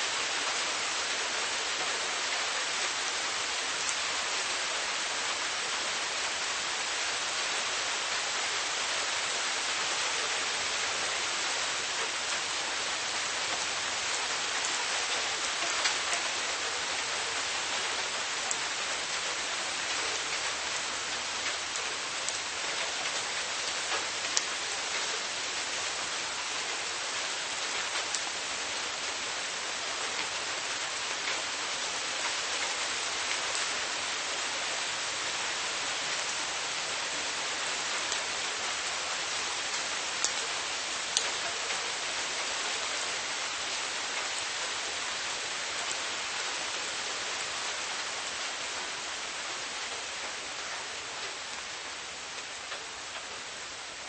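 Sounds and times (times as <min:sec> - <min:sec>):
steady rain hiss: 0:00.0 - 0:54.0
raindrops ticking close by: 0:09.6 - 0:54.0.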